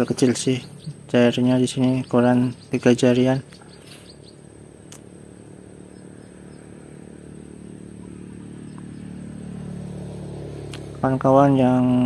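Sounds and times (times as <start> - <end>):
distant engine humming: 0.0 - 12.0.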